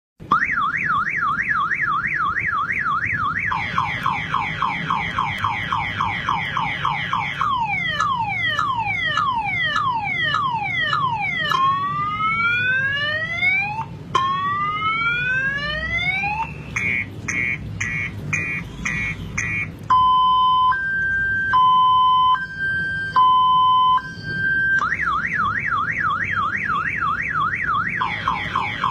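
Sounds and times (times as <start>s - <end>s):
electronic alarm siren: 0.2s - 28.9s.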